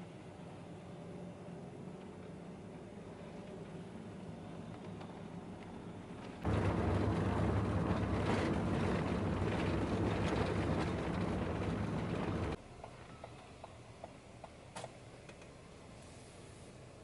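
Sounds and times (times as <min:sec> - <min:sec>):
vehicle rumbling in motion: 0:00.8 - 0:17.0.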